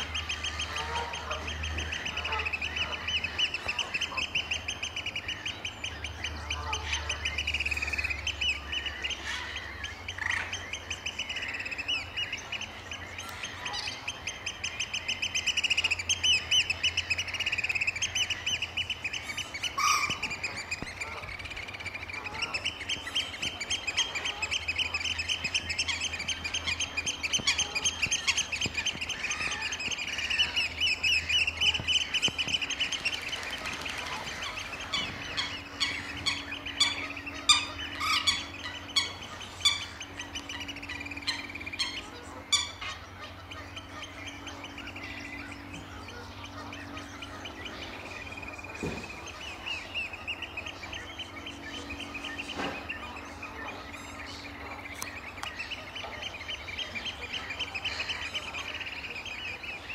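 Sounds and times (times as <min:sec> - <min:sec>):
oystercatchers piping: 0:00.0 - 0:59.9.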